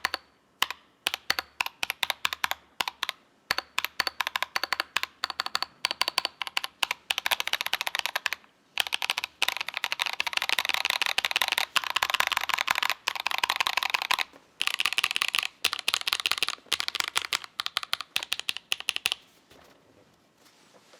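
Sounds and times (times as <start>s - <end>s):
mechanical keyboard typing: 0.0s - 19.2s.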